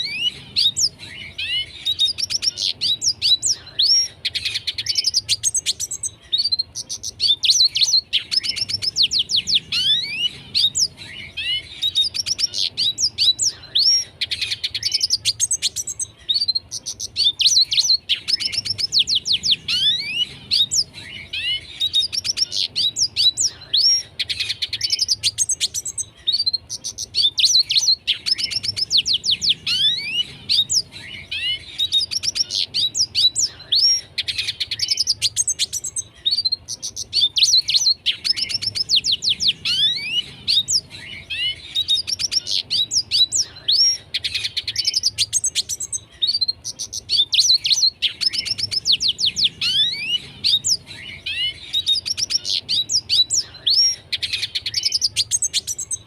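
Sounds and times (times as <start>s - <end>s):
bird singing twitters and trills: 0.0s - 56.0s.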